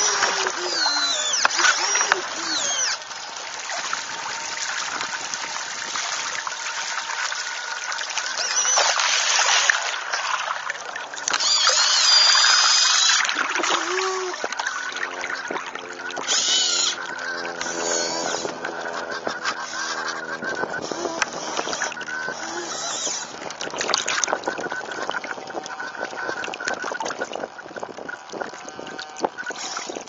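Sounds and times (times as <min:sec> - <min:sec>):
low multi-pitched hum: 0:00.0 - 0:30.0
water splashing past hull: 0:00.0 - 0:30.0.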